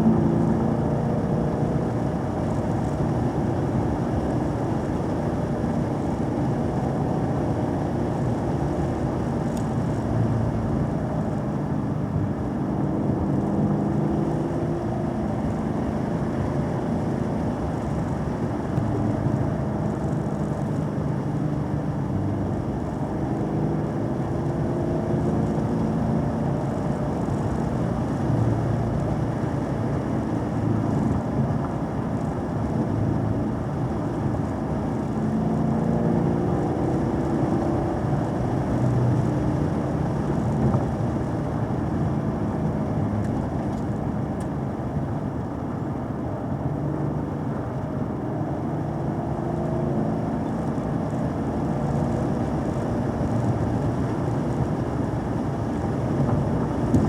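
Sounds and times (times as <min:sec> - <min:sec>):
road and wind noise: 0:00.0 - 0:57.0
vehicle engine cruising: 0:00.0 - 0:57.0.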